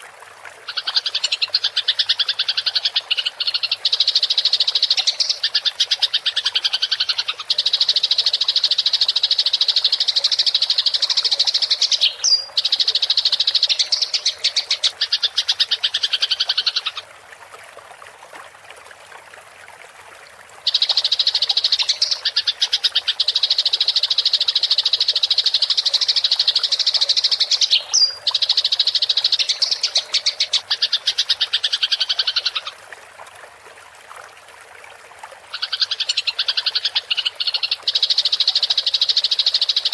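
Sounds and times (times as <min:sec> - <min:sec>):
faint water hiss: 0:00.0 - 0:39.9.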